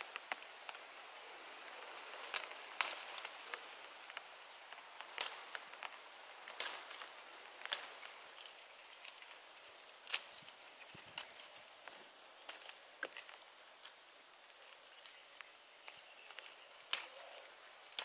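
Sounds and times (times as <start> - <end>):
leaves rustling: 0.0 - 18.0.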